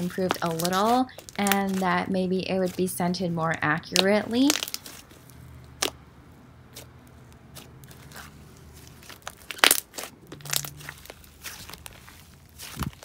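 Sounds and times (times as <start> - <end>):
hands squishing slime: 0.0 - 6.0, 6.7 - 13.0.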